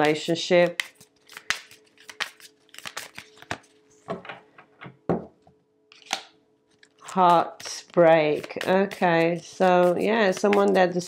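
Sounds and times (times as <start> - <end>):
cards shuffling: 0.0 - 3.8, 5.9 - 11.0.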